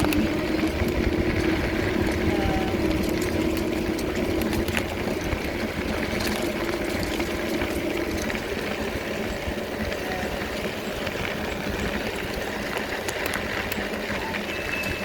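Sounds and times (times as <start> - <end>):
light rattling ticks: 0.0 - 15.0
vehicle engine running: 0.0 - 15.0.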